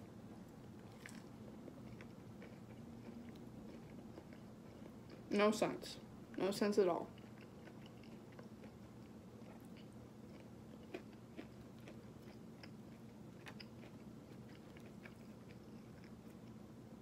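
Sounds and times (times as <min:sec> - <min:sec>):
chewing crunchy food: 0:00.6 - 0:05.4, 0:07.0 - 0:16.7.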